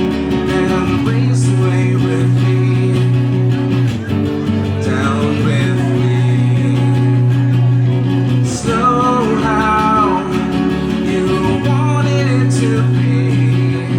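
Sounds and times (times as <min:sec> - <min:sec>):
person singing: 0:00.0 - 0:03.7, 0:04.6 - 0:13.9
strummed acoustic guitar: 0:00.0 - 0:13.9.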